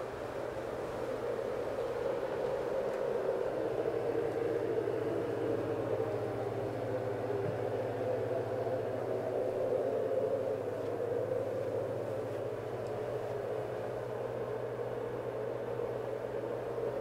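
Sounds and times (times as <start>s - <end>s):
low hum: 0.0s - 17.0s
steady whooshing noise: 0.0s - 17.0s.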